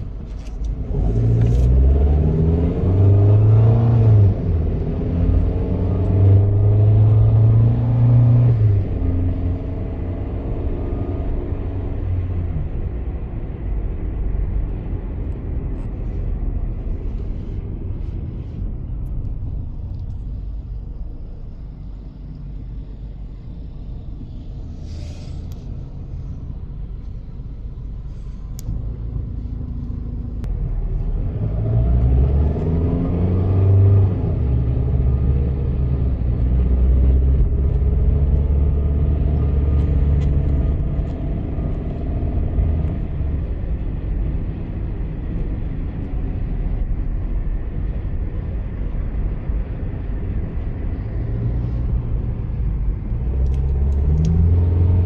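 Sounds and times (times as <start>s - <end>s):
car engine: 0.0s - 55.0s
road rumble: 0.0s - 55.0s.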